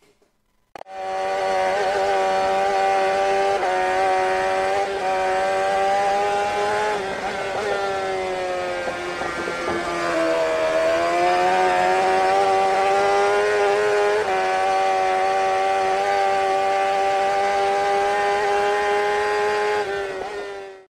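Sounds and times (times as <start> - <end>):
engine at high revs: 0.8 - 20.9.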